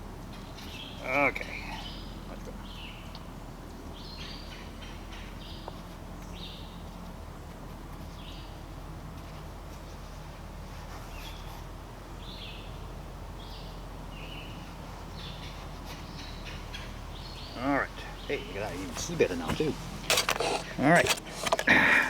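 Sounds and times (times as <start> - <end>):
low background noise: 0.0 - 22.0
songbird chirps: 0.0 - 22.0.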